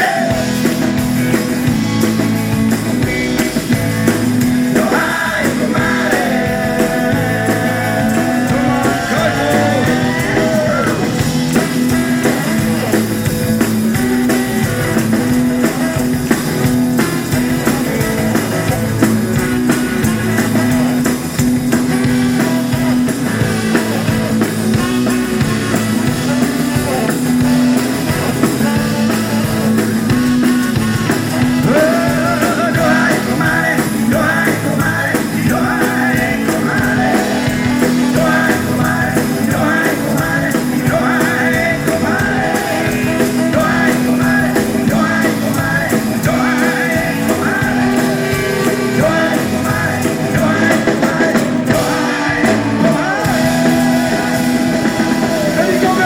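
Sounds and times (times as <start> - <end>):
bass: 0.0 - 56.0
drum kit beat: 0.0 - 56.0
electric guitar: 0.0 - 56.0.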